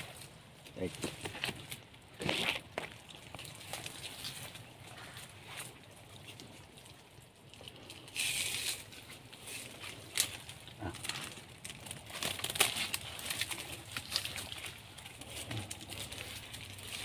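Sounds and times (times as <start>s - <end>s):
footsteps in soft mud: 0.0s - 6.6s, 8.8s - 17.0s
rustling dry palm fronds: 0.0s - 17.0s.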